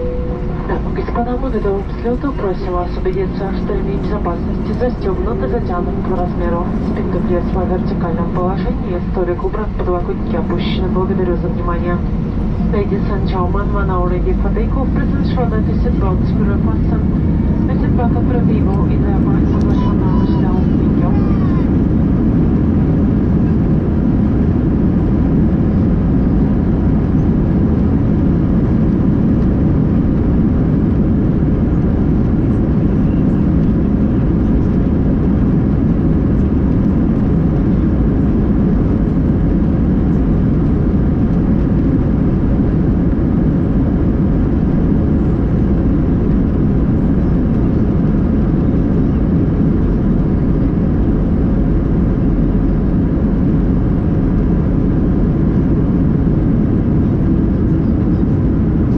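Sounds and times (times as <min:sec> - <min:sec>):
jet engine and airflow noise in cabin: 0:00.0 - 0:58.9.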